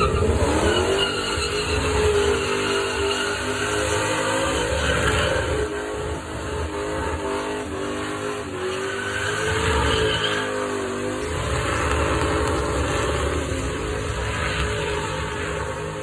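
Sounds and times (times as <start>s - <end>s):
car engine revving high: 0.0s - 16.0s
tyres squealing on pavement: 0.0s - 16.0s.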